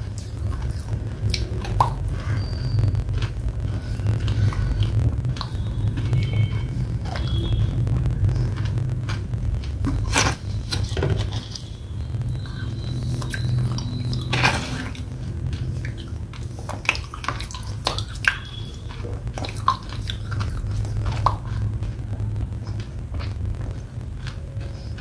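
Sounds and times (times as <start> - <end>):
sticky mouth clicks and smacks: 0.0 - 2.2, 3.1 - 11.8, 12.4 - 25.0
squishy chewing: 0.0 - 25.0
steady low hum: 0.0 - 25.0.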